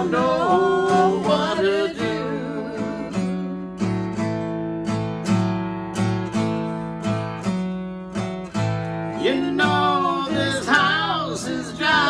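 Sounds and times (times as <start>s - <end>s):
guitar strumming blues chords: 0.0s - 12.0s.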